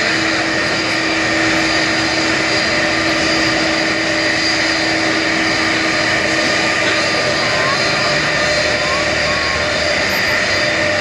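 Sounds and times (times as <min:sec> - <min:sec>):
jet engines at taxi power: 0:00.0 - 0:11.0.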